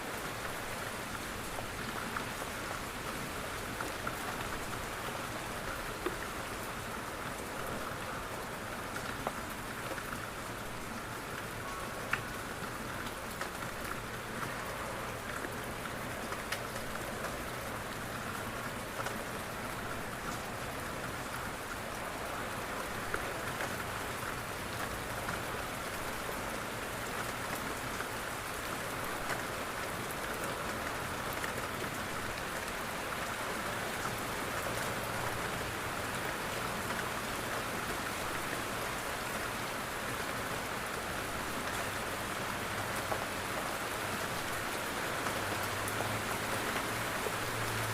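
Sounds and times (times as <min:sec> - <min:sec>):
rain hissing on a window: 0:00.0 - 0:47.9.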